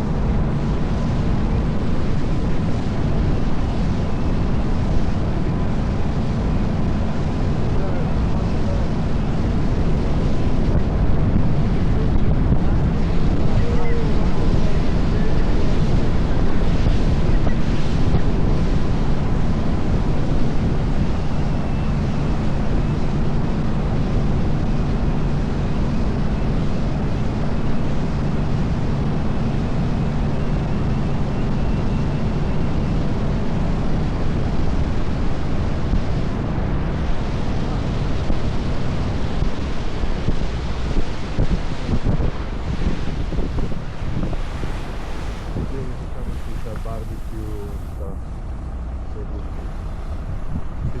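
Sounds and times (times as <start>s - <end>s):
boat motor humming: 0.0s - 51.0s
water rushing past hull: 0.0s - 51.0s
wind buffeting microphone: 0.0s - 51.0s.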